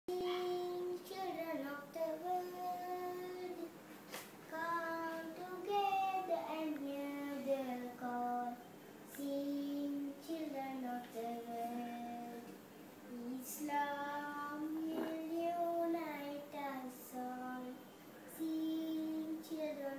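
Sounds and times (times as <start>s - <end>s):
girl singing unaccompanied: 0.1s - 3.8s, 4.4s - 19.9s.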